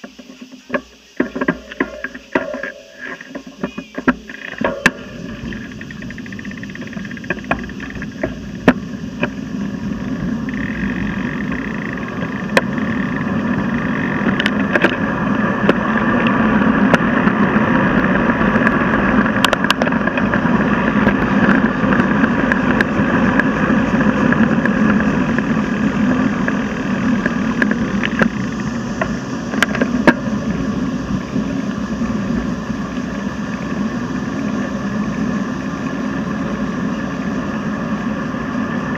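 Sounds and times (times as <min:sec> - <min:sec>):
bicycle tyre and road noise: 0:00.0 - 0:38.9
wind rushing over microphone: 0:01.2 - 0:38.9.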